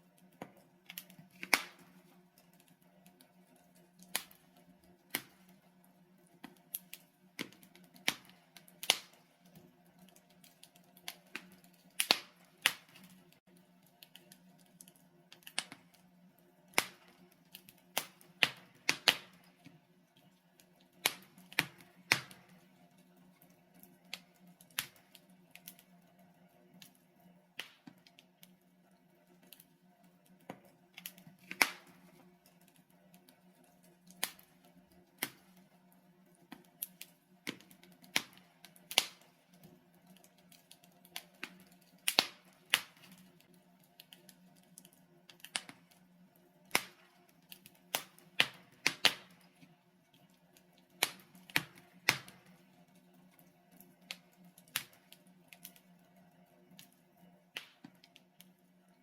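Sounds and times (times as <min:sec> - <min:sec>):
logs crackling in a fireplace: 0:00.0 - 0:59.0.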